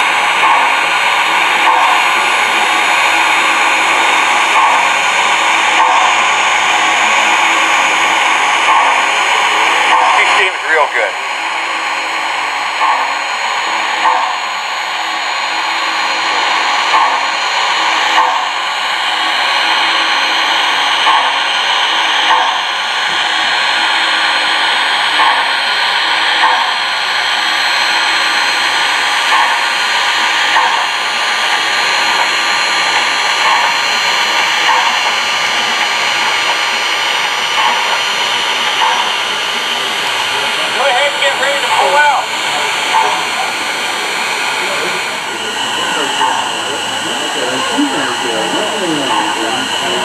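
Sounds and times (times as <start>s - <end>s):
steam locomotive hiss: 0.0s - 50.0s.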